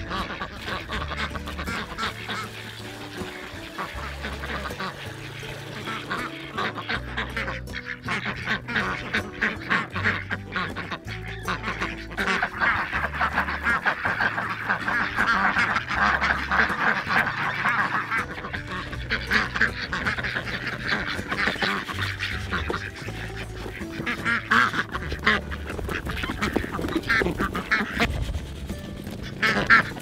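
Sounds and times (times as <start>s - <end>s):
ducks quacking: 0.0s - 30.0s
soft background music: 0.0s - 30.0s.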